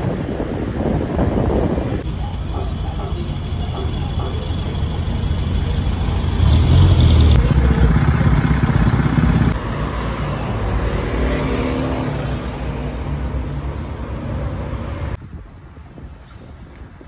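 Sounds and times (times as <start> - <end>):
vehicle engines running: 0.1 - 15.2.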